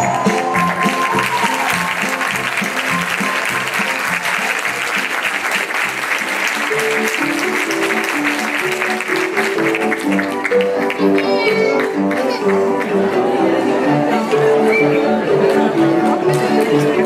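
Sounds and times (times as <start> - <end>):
hands clapping in applause: 0.0 - 13.1, 15.4 - 17.0
instrumental music: 0.0 - 17.0.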